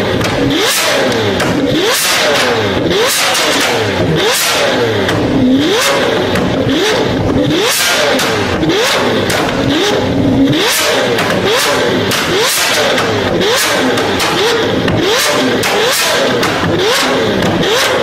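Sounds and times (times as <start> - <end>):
exhaust pops: 0.0 - 18.0
sports car engine revving: 0.0 - 18.0.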